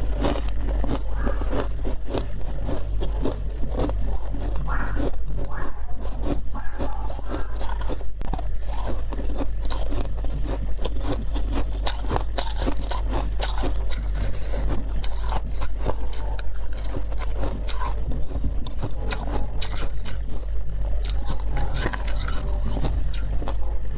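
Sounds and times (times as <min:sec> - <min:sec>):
spoon scraping frost: 0:00.0 - 0:20.3, 0:21.0 - 0:23.7
frost crunched and chewed: 0:00.0 - 0:23.9
steady low hum: 0:00.0 - 0:23.9.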